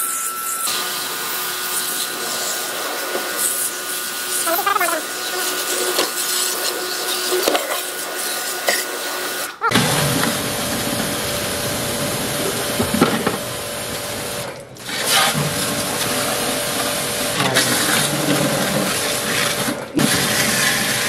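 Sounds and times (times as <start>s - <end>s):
pressure washer motor whine: 0.0s - 7.6s, 9.7s - 21.0s.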